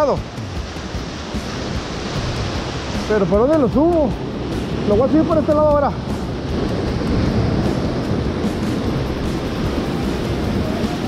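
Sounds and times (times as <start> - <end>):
ocean surf washing on shore: 0.0 - 11.0
wind on microphone: 0.0 - 11.0.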